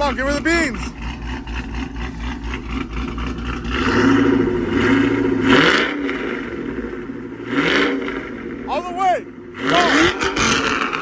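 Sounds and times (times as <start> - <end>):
engine idling and revving: 0.0 - 11.0.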